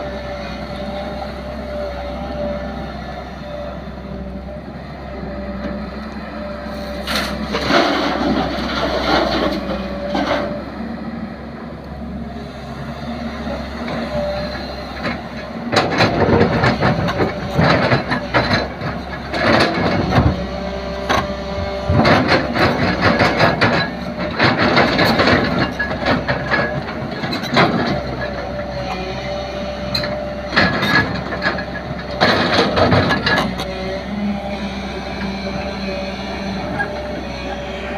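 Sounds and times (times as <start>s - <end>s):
diesel engine running under load: 0.0s - 37.9s.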